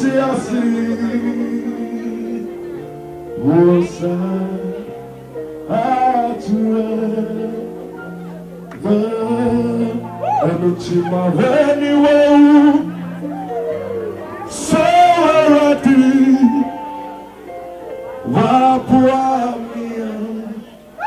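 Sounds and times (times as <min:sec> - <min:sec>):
person singing: 0:00.0 - 0:21.0
steady held chords: 0:00.0 - 0:21.0.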